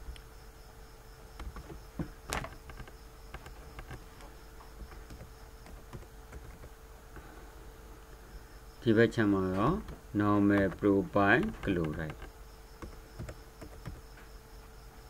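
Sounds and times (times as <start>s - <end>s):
faint insect chirping: 0.0s - 15.0s
steady low hum: 0.0s - 15.0s.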